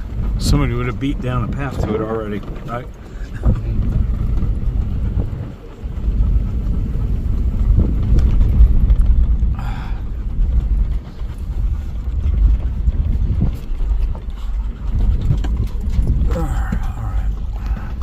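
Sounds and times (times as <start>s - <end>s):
vehicle driving with low rumble: 0.0s - 18.0s.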